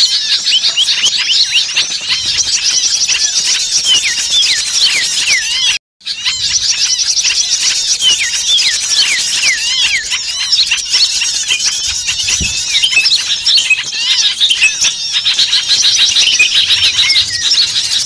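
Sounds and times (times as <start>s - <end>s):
chorus of songbirds: 0.0s - 18.0s.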